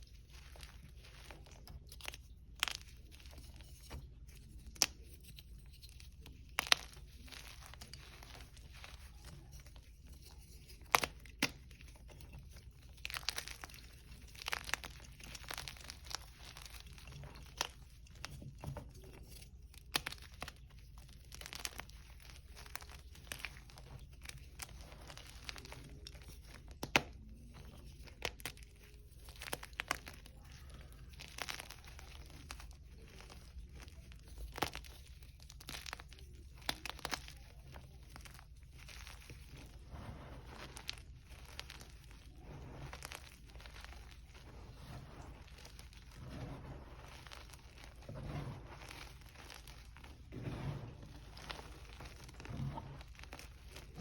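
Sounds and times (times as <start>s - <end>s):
chalk crunching and crackling: 0.0s - 54.0s.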